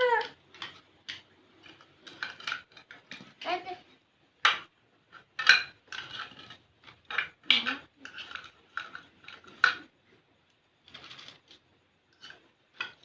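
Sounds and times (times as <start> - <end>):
toy dishes clinking: 0.0 - 3.8, 4.4 - 9.9, 10.8 - 13.0.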